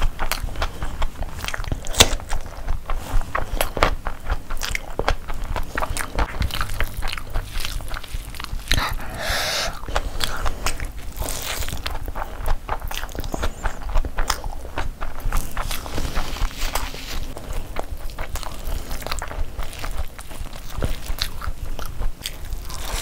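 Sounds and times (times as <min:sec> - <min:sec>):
wet chewing and lip smacks: 0:00.0 - 0:23.0.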